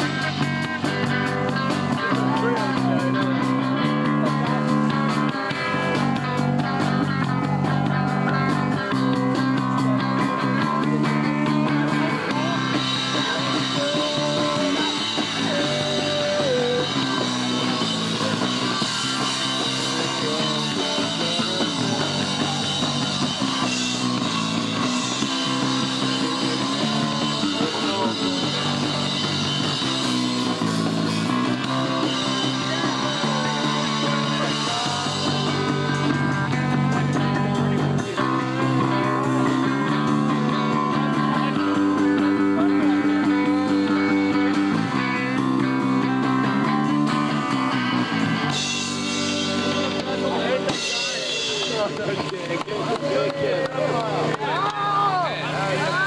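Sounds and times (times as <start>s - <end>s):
distorted electric guitar chords: 0.0s - 56.0s
drums: 0.0s - 56.0s.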